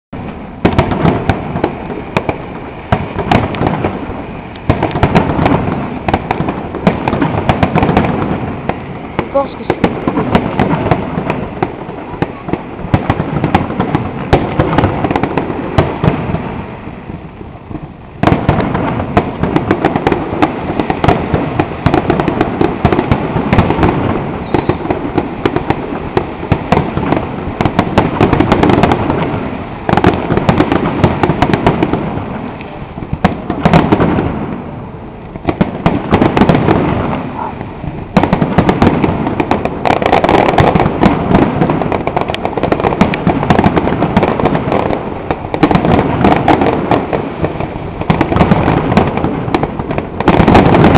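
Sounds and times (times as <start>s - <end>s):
fireworks barrage bangs and crackling: 0.2s - 50.9s.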